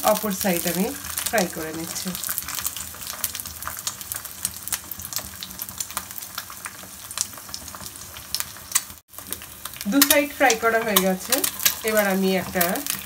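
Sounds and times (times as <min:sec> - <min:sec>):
egg sizzling in frying pan: 0:00.0 - 0:13.0.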